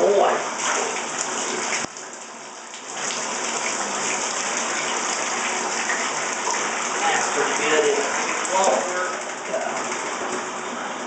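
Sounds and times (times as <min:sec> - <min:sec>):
water splashing in bathtub: 0:00.0 - 0:11.0.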